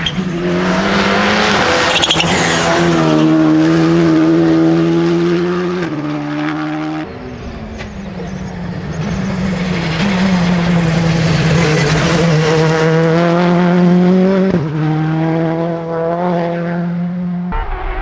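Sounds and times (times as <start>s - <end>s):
car engine revving high: 0.0s - 18.0s.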